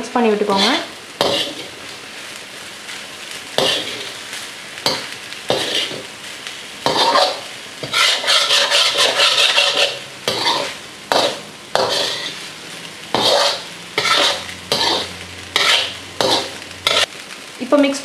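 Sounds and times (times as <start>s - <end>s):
stir-fry sizzling: 0.0s - 18.0s
metal spoon scraping a wok: 0.5s - 2.2s, 3.5s - 6.1s, 6.8s - 17.1s.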